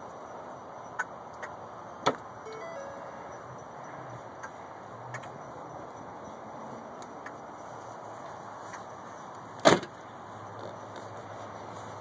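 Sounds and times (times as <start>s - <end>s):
outdoor traffic noise: 0.0s - 12.0s.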